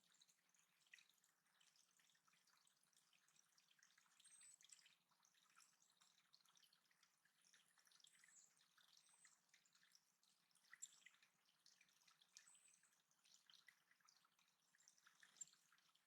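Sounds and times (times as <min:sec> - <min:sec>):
water dripping and trickling: 0:00.0 - 0:16.0.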